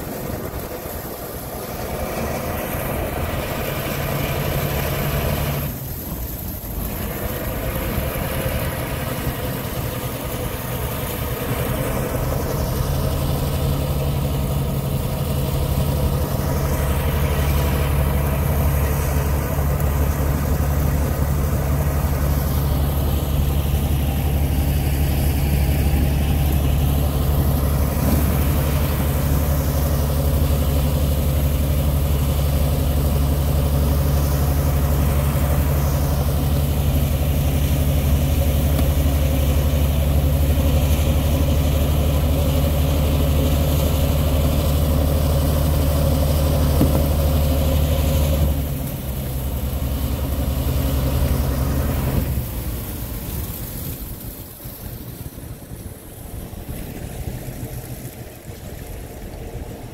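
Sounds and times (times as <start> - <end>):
boat diesel engine droning: 0.0 - 59.9.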